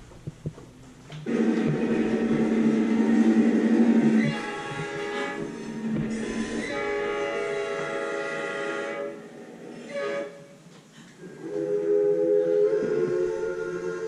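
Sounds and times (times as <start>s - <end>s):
train horn blasts: 1.3s - 10.6s, 11.4s - 14.0s.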